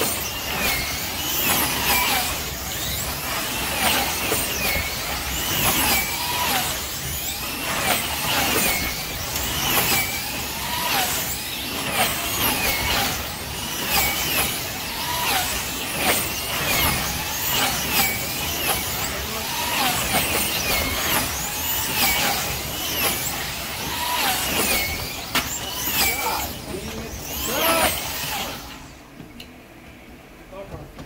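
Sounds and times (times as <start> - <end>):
slot car motors whining: 0.0 - 30.5.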